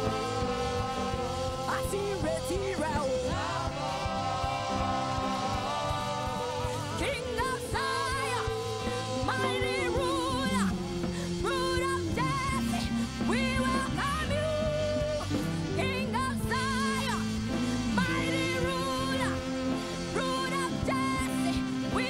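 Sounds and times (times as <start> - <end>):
electric guitar: 0.0 - 22.0
keyboard: 0.0 - 22.0
woman singing with vibrato: 0.0 - 22.0.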